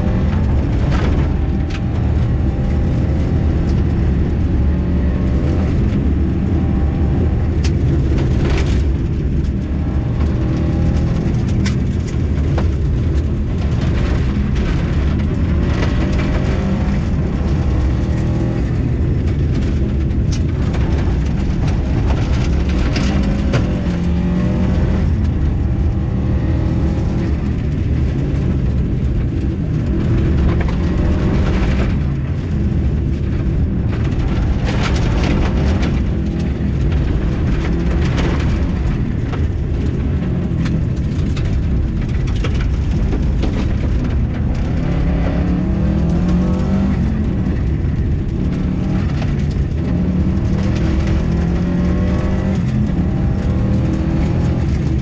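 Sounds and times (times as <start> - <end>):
gravel striking car: 0.0 - 55.0
rally car engine revving: 0.0 - 55.0.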